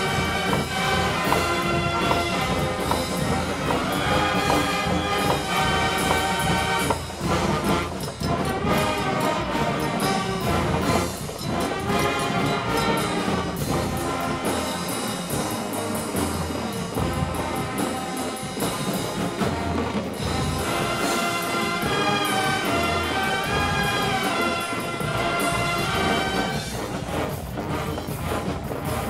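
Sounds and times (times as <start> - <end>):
brass: 0.0 - 29.0
cymbals: 0.0 - 29.0
drums: 0.0 - 29.0.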